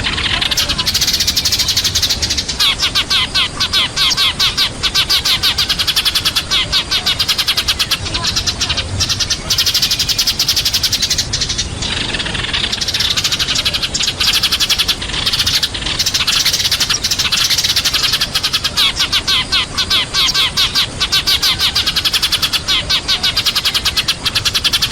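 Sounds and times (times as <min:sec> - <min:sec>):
sparrows chirping: 0:00.0 - 0:24.9.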